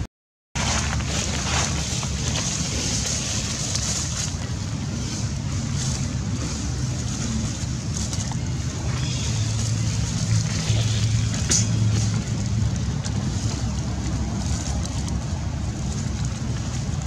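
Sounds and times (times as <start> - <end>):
low rumble: 0.6 - 17.0.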